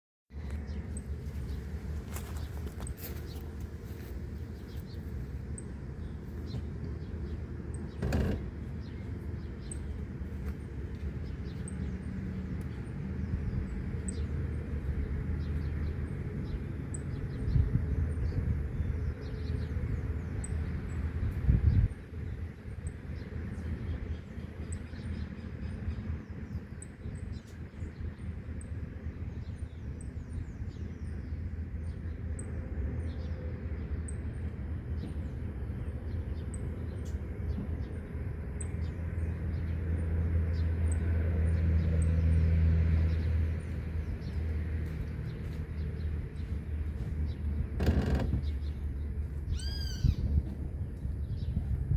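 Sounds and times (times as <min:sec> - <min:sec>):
road traffic rumble: 0:00.3 - 0:51.9
wind: 0:00.3 - 0:51.9
small birds chirping: 0:00.4 - 0:51.9.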